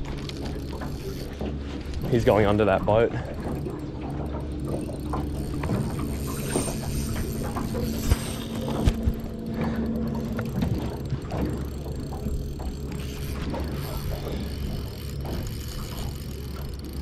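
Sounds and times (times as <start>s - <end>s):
fishing reel drag buzzing: 0.0s - 17.0s.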